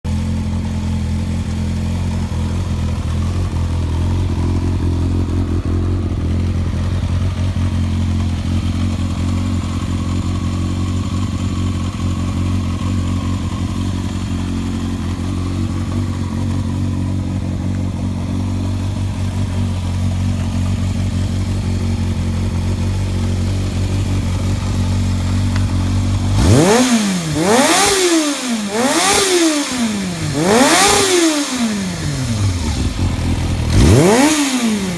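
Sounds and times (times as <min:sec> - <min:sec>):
motorcycle engine idling: 0:00.1 - 0:34.9
motorcycle engine revving: 0:00.1 - 0:34.9.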